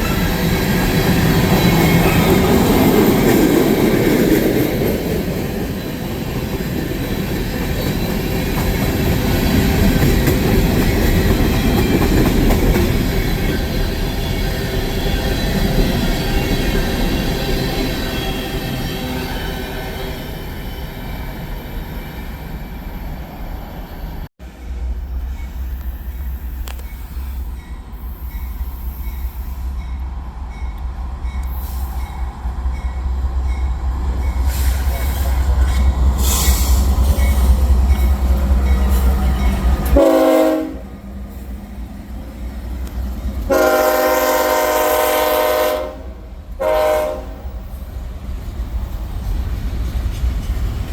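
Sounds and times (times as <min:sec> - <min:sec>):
steel wheels rumbling on rail: 0:00.0 - 0:50.9.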